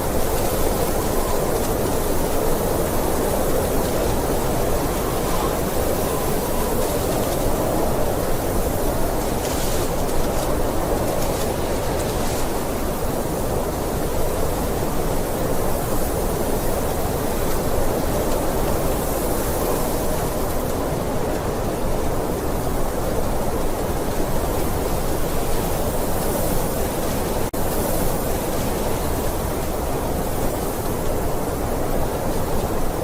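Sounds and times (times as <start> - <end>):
blizzard wind blowing: 0.0 - 33.0.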